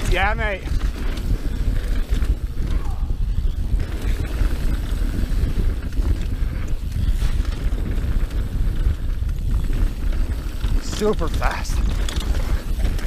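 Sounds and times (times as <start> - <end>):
bike clicks and rattles: 0.0 - 13.0
tyres rumbling on dirt: 0.0 - 13.0
wind buffeting microphone: 0.0 - 13.0.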